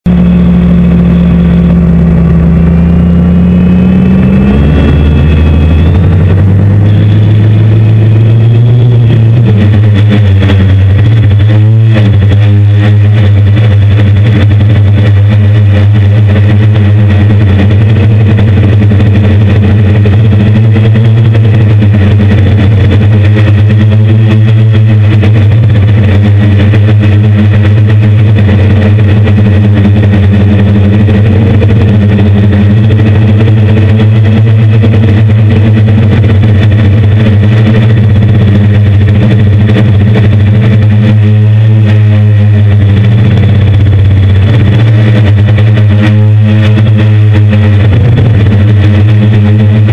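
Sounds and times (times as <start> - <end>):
drone motors and propellers droning: 0.0 - 49.9.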